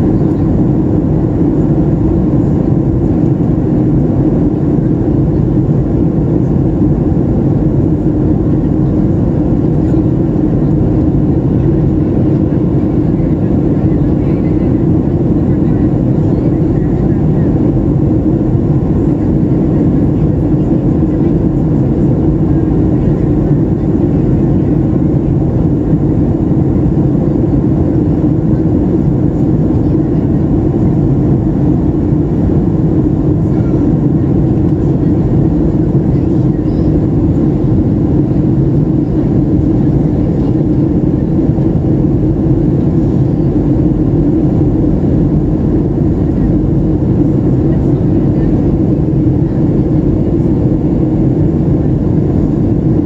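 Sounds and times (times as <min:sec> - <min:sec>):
airliner cabin drone: 0:00.0 - 0:53.0.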